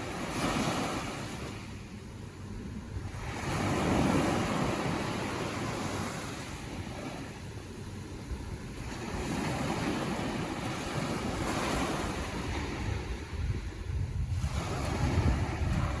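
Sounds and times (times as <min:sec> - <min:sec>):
ocean surf washing in: 0:00.0 - 0:16.0
wind rumbling on microphone: 0:00.0 - 0:16.0.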